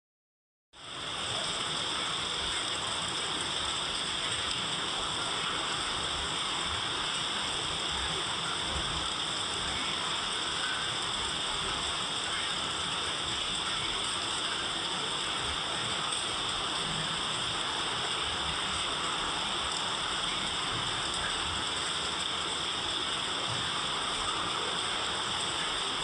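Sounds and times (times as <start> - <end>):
steady rain hiss: 0.8 - 26.0.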